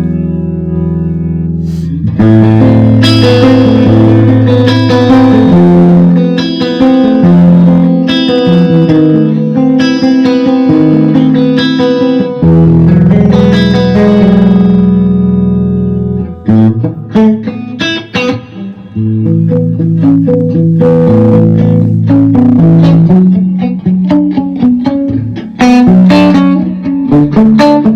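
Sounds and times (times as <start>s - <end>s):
electric guitar chords: 0.0s - 27.9s.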